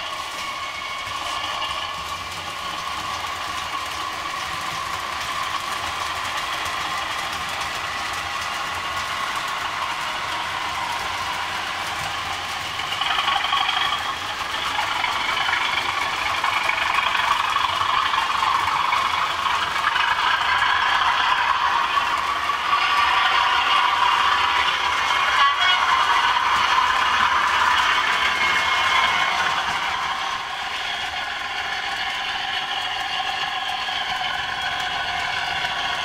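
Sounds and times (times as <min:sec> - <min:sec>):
model train wheels clattering: 0:00.0 - 0:36.0.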